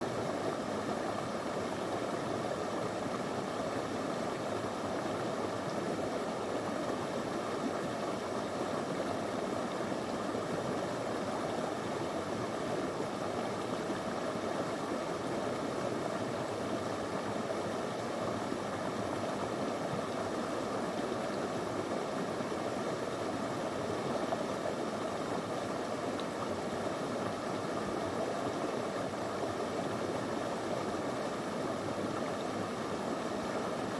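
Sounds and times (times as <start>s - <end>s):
river flowing over stones: 0.1s - 33.9s.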